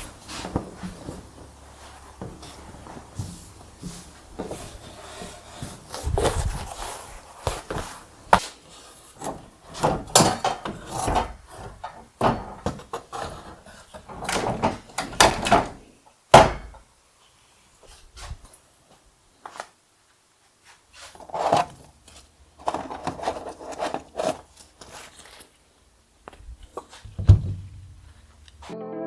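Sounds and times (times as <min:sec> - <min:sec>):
objects clunking and scraping: 0:00.0 - 0:16.8, 0:20.6 - 0:25.6, 0:26.3 - 0:28.8.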